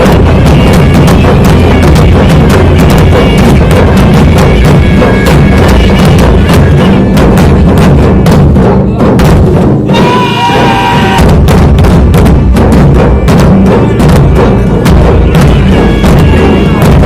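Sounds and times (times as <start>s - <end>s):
dhol drums beating fast: 0.0s - 17.0s.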